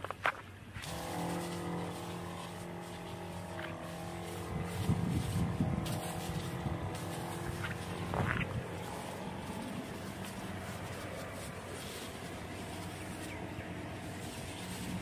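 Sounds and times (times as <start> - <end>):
sprayer pump humming: 0.0 - 15.0.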